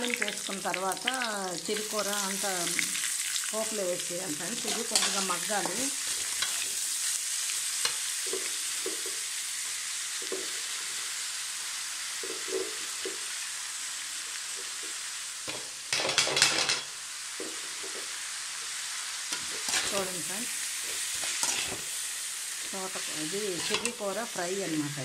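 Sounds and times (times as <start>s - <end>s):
greens sizzling in hot oil: 0.0s - 25.0s.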